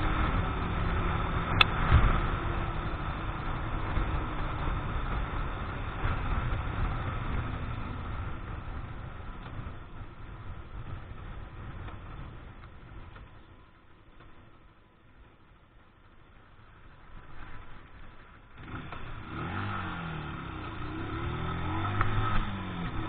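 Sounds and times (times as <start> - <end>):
motorcycle engine: 0.0 - 15.6, 16.4 - 23.0.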